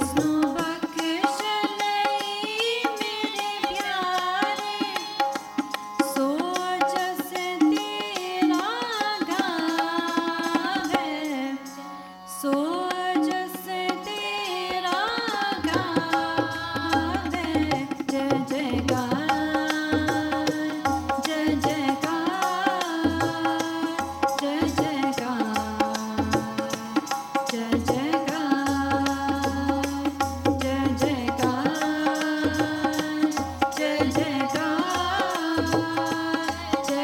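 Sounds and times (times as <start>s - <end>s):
tabla drumming: 0.0s - 11.4s, 12.8s - 37.0s
harmonium chords: 0.0s - 37.0s
woman singing: 0.0s - 37.0s.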